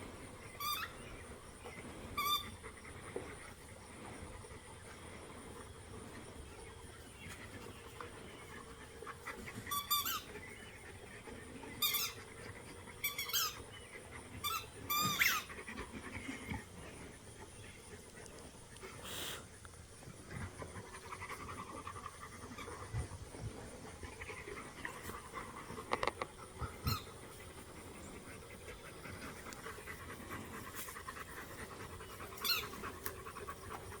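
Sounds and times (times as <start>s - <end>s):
puppy panting: 0.0s - 34.0s.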